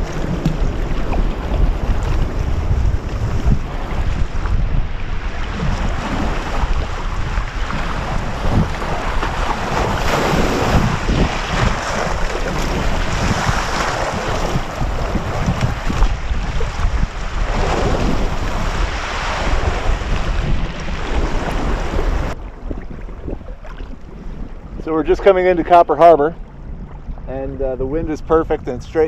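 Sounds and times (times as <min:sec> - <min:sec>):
waves splashing around kayak: 0:00.0 - 0:29.0
wind buffeting microphone: 0:00.0 - 0:29.0.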